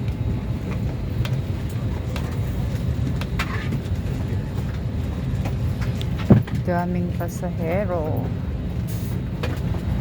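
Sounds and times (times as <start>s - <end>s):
airliner cabin hum: 0.0s - 10.0s
passengers murmuring: 0.1s - 9.3s.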